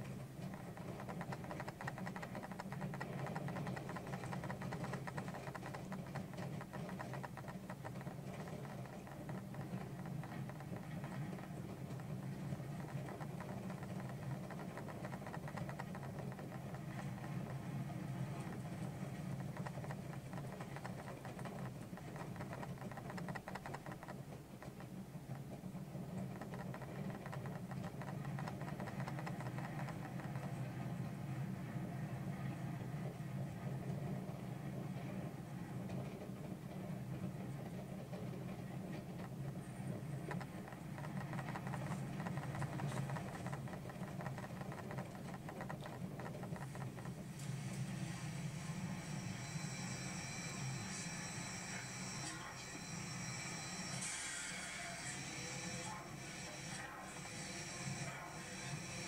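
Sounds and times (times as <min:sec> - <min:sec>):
roller coaster rumble and clatter: 0:00.0 - 0:51.2.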